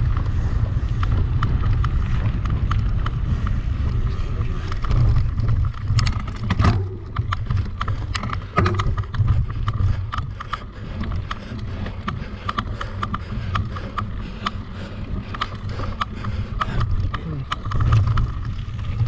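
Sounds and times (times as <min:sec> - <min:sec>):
bike clicks and rattles: 0:00.0 - 0:19.0
wind rumble on microphone: 0:00.0 - 0:19.0.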